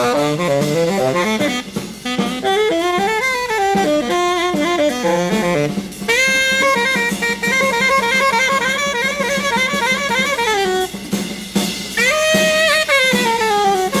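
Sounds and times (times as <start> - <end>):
drum kit and cymbals: 0.0 - 14.0
jazz saxophone: 0.0 - 14.0.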